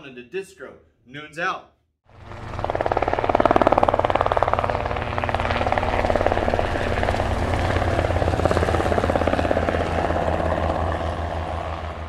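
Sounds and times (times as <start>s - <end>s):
helicopter rotor chopping: 2.1s - 12.0s.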